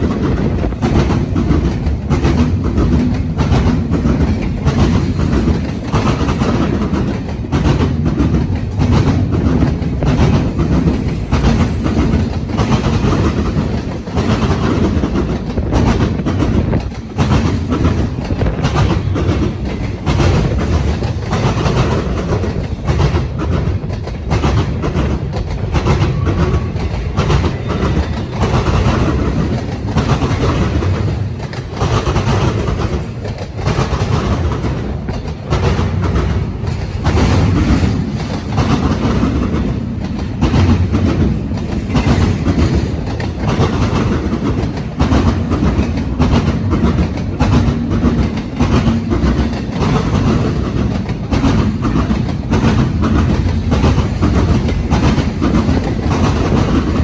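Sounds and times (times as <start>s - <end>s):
freight train rumbling: 0.0s - 57.0s
steel wheels clacking over rail joints: 0.0s - 57.0s.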